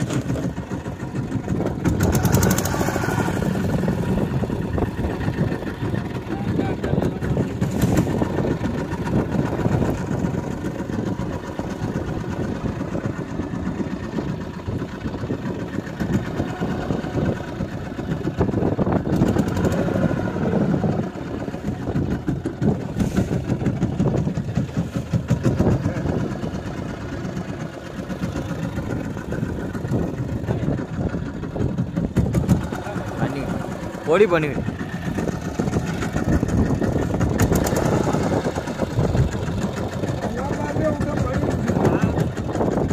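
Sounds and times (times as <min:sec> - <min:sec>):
boat engine chugging: 0:00.0 - 0:42.9.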